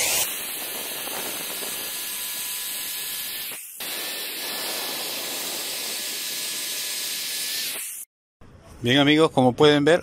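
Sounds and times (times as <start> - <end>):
electric saw cutting wood: 0.0 - 8.1.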